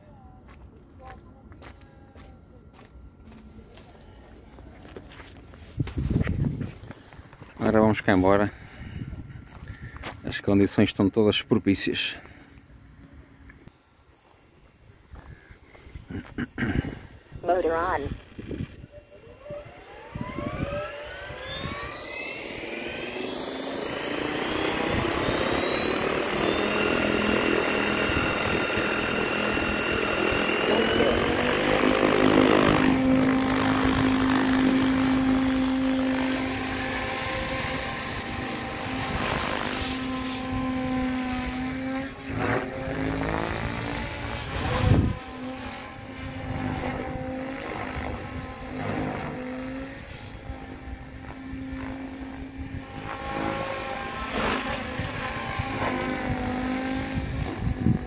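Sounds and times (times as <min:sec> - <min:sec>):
electric rc helicopter whine: 0:01.4 - 0:58.0.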